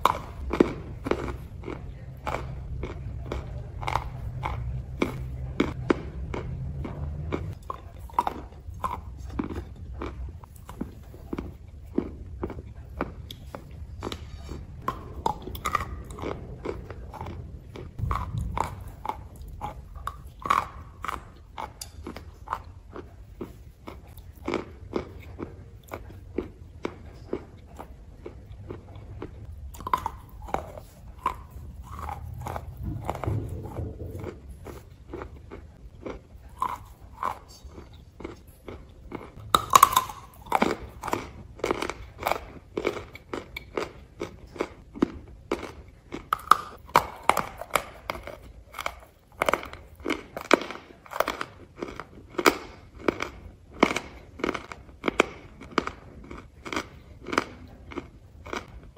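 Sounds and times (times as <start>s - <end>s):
crunching and chewing clay: 0.0s - 58.9s.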